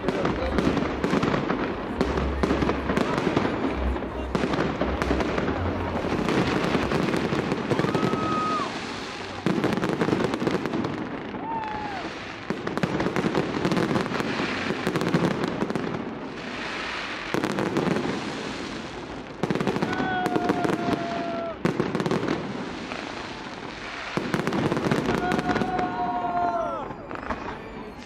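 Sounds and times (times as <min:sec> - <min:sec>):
fireworks bursting with crackle: 0:00.0 - 0:28.0.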